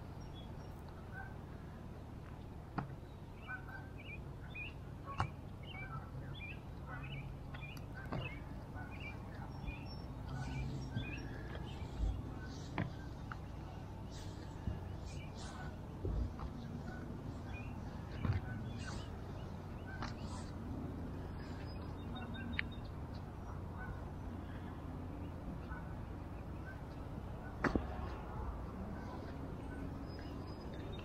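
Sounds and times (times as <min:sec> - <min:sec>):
steady low rumble: 0:00.0 - 0:31.0
small birds chirping: 0:02.4 - 0:31.0.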